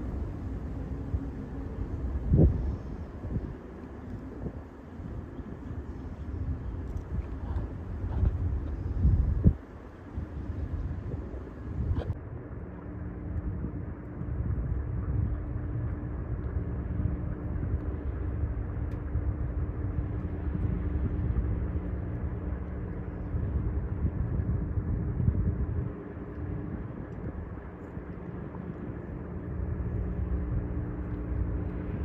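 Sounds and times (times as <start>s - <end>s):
low engine rumble: 0.0s - 32.0s.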